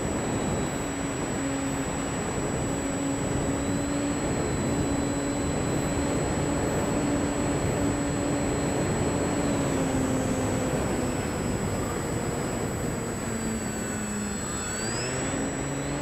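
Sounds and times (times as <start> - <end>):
electric model plane motor humming: 0.0 - 16.0.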